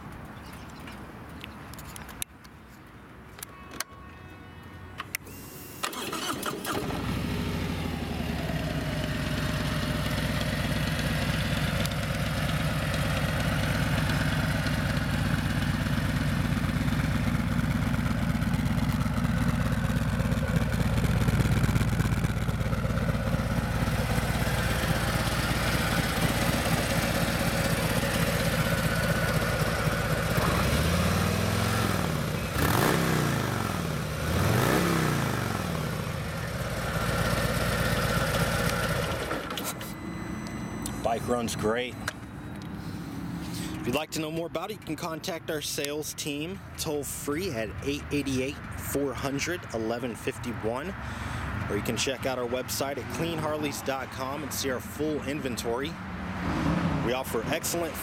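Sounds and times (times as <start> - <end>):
motorcycle engine starting and idling: 5.1 - 42.8, 43.5 - 55.8.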